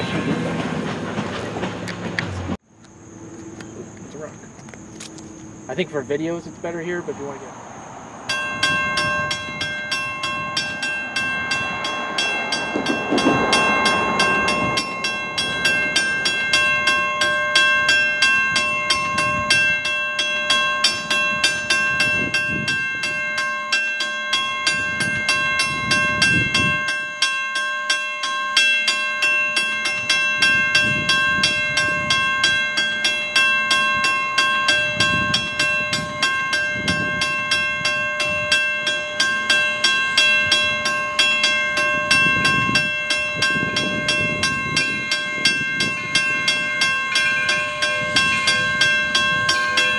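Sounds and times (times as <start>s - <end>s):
distant steam locomotive chuffing: 0.0s - 27.4s, 28.2s - 49.9s.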